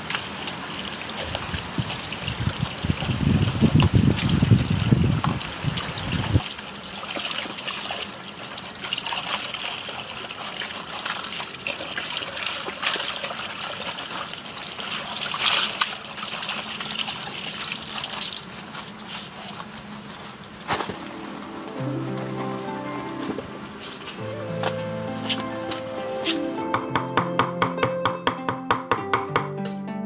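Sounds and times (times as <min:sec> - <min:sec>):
water trickling: 0:00.0 - 0:26.6.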